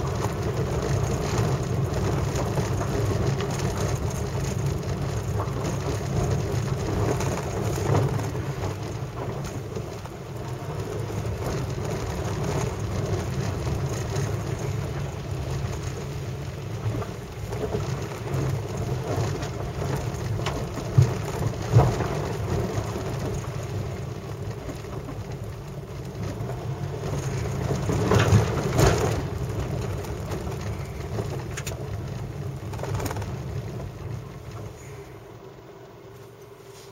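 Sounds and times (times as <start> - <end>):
tyres crackling over wet debris: 0.0 - 35.1
car engine and tyre noise: 0.0 - 36.9.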